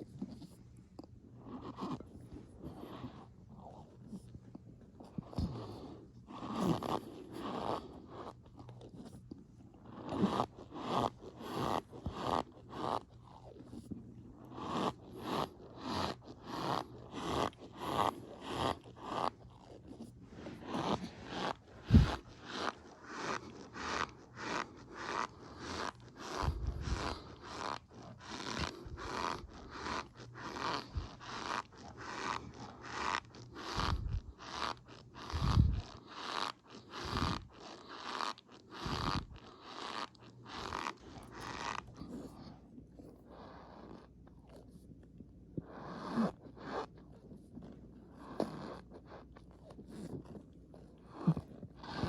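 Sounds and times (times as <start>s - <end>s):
wet chewing and smacking: 0.0s - 52.0s.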